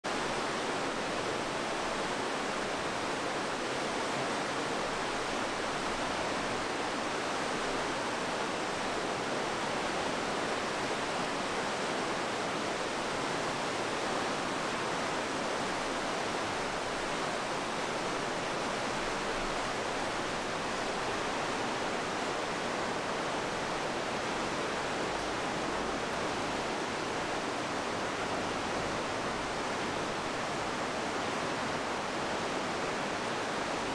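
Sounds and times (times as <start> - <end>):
river rushing: 0.1 - 33.9.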